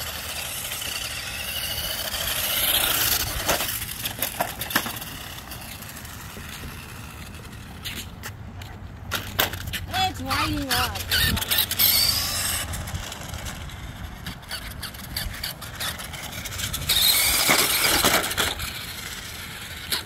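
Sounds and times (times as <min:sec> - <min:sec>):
toy electric motor whining: 0:00.0 - 0:08.0, 0:10.0 - 0:20.0.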